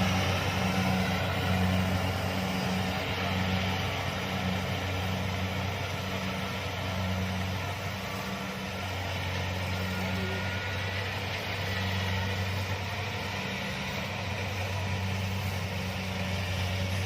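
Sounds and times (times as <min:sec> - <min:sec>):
combine harvester engine hum: 0:00.0 - 0:17.0
cutting and threshing machinery: 0:00.0 - 0:17.0.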